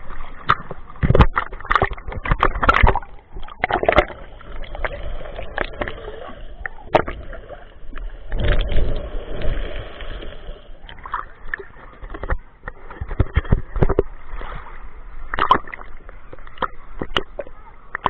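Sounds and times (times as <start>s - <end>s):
sea water sloshing and splashing: 0.0s - 18.0s.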